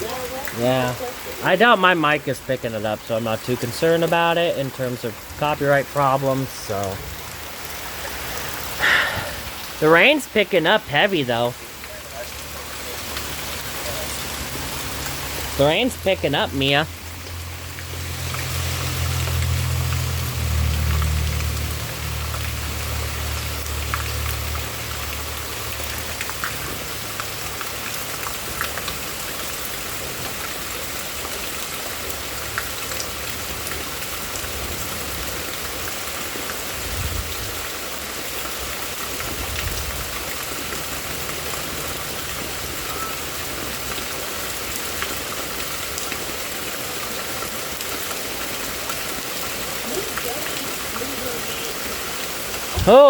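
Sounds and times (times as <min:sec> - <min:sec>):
heavy rain falling: 0:00.0 - 0:53.0
raindrops ticking on surfaces: 0:00.0 - 0:53.0.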